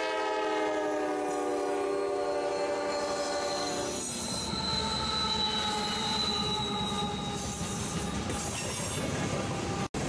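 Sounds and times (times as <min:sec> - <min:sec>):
locomotive horn: 0:00.0 - 0:08.4
train rumble: 0:01.1 - 0:10.0
steel wheels squealing: 0:01.3 - 0:09.9.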